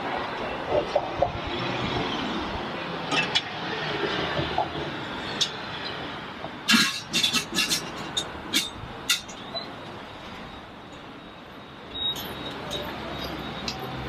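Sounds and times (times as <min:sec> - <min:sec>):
street background hum: 0:00.0 - 0:14.0.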